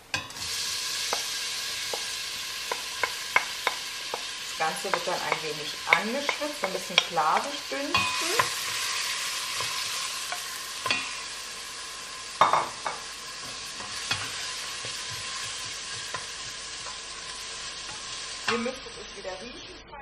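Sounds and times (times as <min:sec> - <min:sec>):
onions sizzling in oil: 0:00.0 - 0:19.7.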